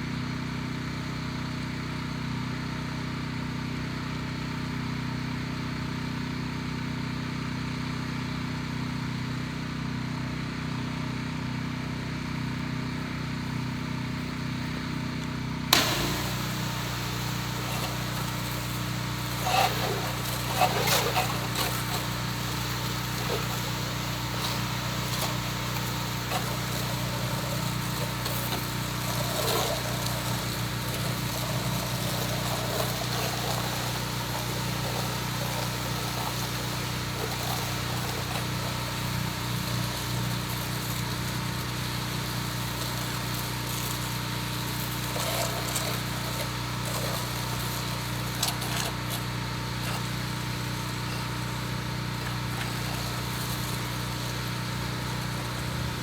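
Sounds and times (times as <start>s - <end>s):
pressure washer engine running: 9.4s - 56.0s.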